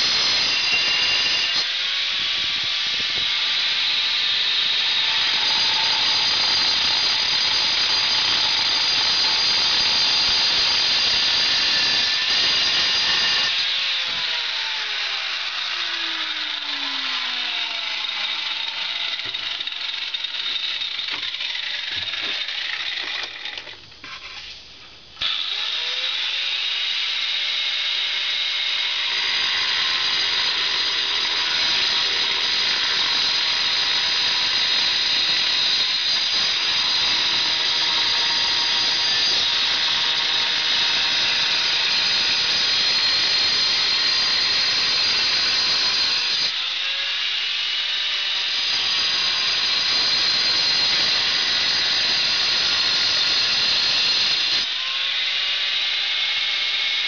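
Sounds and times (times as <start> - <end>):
angle grinder cutting tile: 0.0 - 24.5, 25.2 - 57.0.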